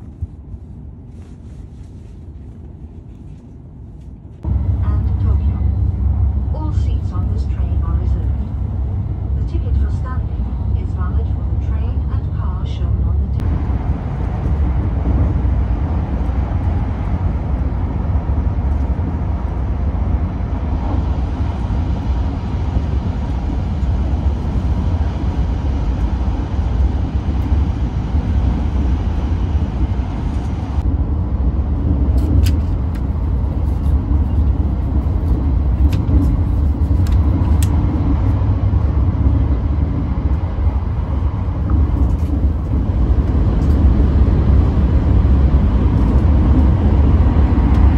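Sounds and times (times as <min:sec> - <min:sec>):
high-speed train rumble: 0:00.0 - 0:47.9.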